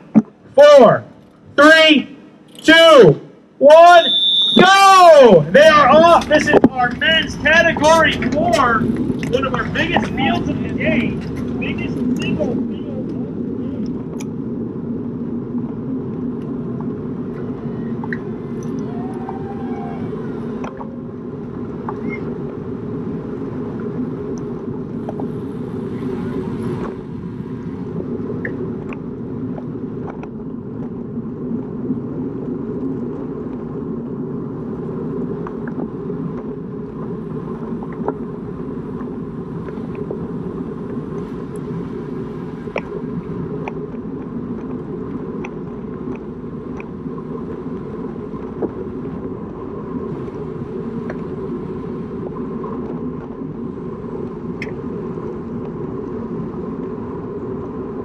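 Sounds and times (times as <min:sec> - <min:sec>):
bicycle road rumble: 0:00.0 - 0:58.0
faint steady hum: 0:00.0 - 0:58.0
wind rush: 0:00.0 - 0:58.0.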